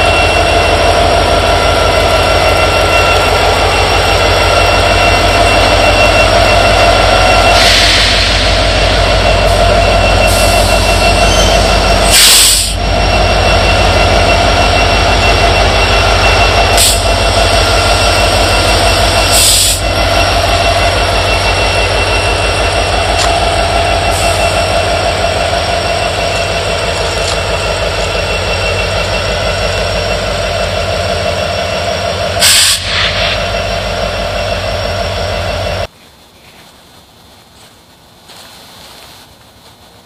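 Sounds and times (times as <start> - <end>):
diesel locomotive engine throbbing: 0.0 - 35.9.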